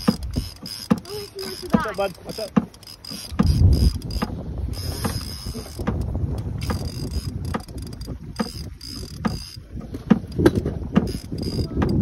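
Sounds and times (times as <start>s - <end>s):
water slapping boat hull: 0.0s - 12.0s
wind rumbling on microphone: 0.0s - 12.0s.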